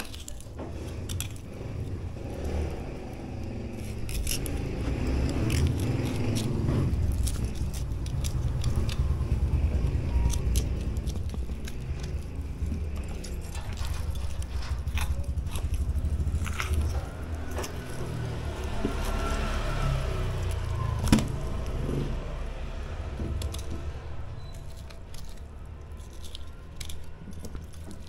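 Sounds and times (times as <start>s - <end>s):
low rumble: 0.6s - 28.0s.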